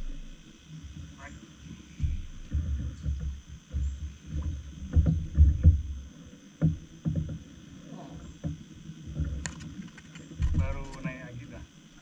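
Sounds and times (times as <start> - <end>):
water slapping boat hull: 0.0 - 11.6.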